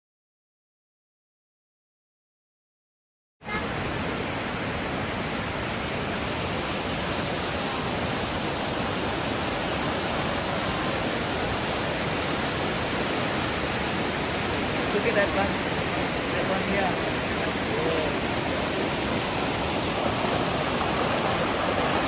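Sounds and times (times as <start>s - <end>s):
waterfall rushing: 3.5s - 22.0s.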